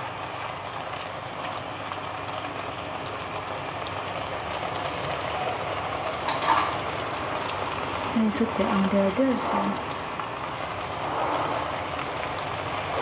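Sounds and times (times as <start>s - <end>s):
oil sizzling and crackling: 0.0s - 13.0s.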